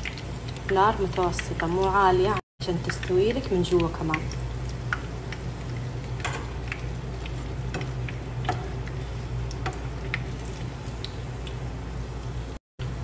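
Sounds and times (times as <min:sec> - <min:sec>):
oil crackling and popping: 0:00.0 - 0:12.6
steady low hum: 0:01.6 - 0:13.0.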